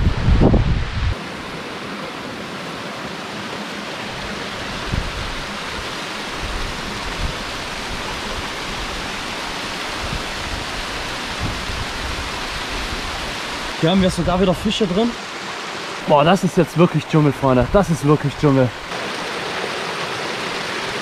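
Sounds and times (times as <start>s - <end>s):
waterfall rushing over rocks: 1.1s - 21.0s.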